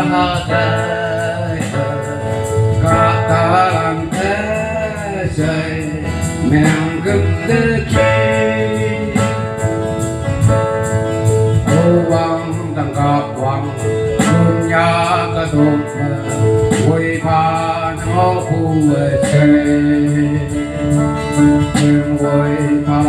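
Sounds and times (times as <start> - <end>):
man singing into microphone: 0.0 - 10.6, 11.5 - 23.0
instrumental backing with beat: 0.0 - 23.0.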